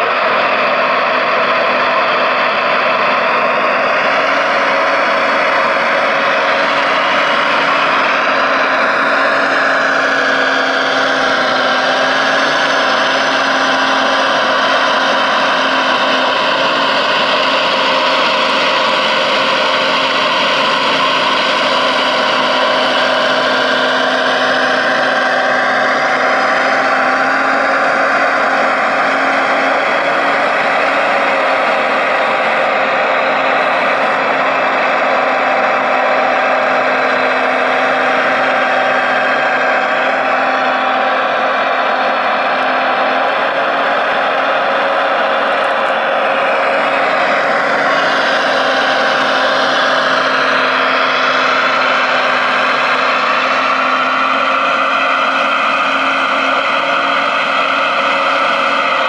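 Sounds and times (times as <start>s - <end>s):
hydraulic pump whine: 0.0s - 59.0s.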